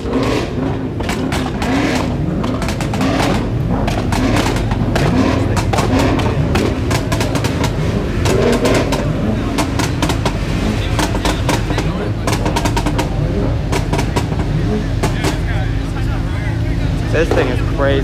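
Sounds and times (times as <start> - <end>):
exhaust pops and cracks: 0.0 - 15.8
car engine revving: 0.0 - 18.0.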